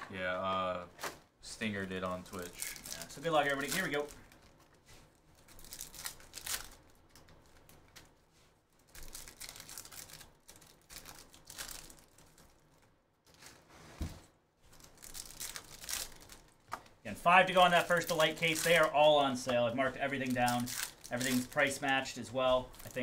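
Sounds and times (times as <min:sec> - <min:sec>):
foil wrappers crinkling and tearing: 0:02.3 - 0:08.2, 0:08.8 - 0:13.6, 0:14.6 - 0:23.0.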